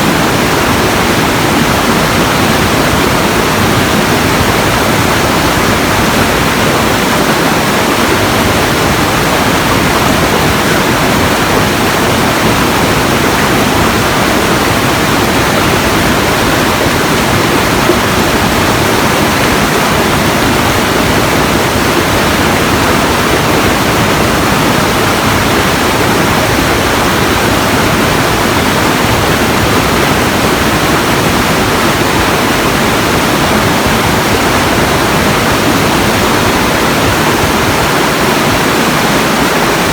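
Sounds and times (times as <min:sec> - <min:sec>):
steady loud rushing noise: 0:00.0 - 0:39.9.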